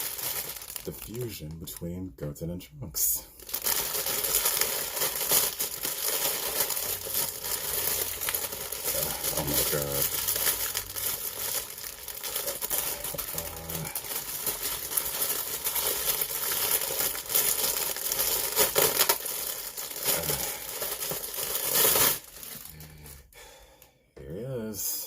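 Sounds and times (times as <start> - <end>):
packaging crinkling and rustling: 0.0 - 2.1, 3.4 - 23.1.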